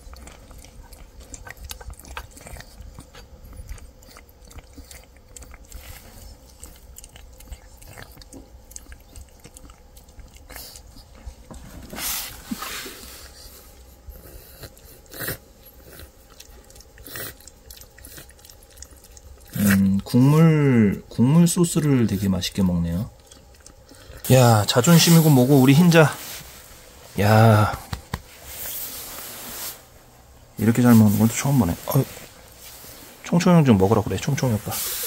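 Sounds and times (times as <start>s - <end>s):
cat chewing and lapping food: 0.0s - 29.9s.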